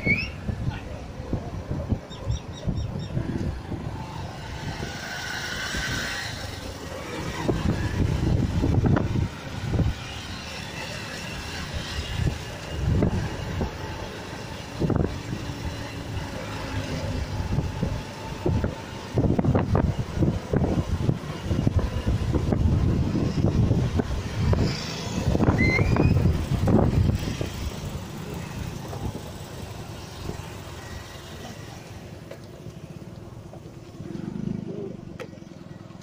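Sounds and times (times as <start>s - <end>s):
wind buffeting microphone: 0.0s - 31.1s
motorcycles running at speed: 0.0s - 36.0s.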